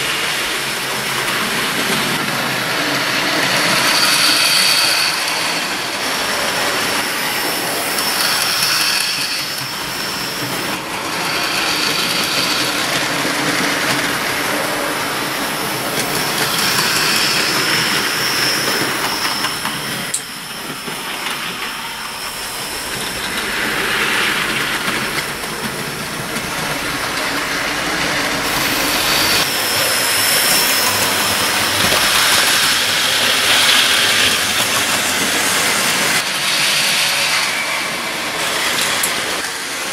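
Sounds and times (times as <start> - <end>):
wheels rattling over rails: 0.0 - 39.9.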